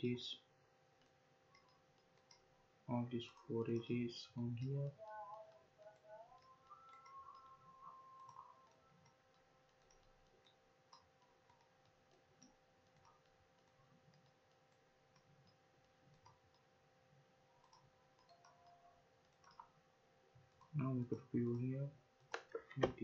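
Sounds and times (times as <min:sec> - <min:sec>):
faint steady hum: 0:00.0 - 0:23.0
computer mouse clicks: 0:01.0 - 0:02.5, 0:03.1 - 0:19.8, 0:20.4 - 0:23.0.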